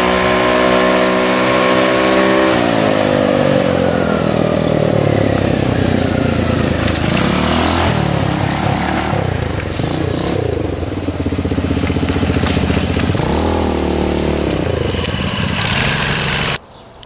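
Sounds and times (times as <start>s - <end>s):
small gasoline engine revving: 0.0s - 16.6s.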